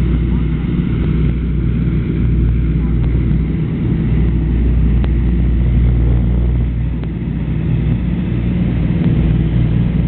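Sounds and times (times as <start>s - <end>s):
propeller plane engines droning: 0.0s - 10.0s.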